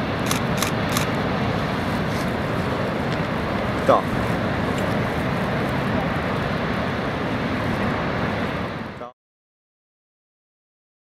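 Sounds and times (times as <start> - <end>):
heavy ocean surf: 0.0 - 9.1
wind: 0.0 - 9.2.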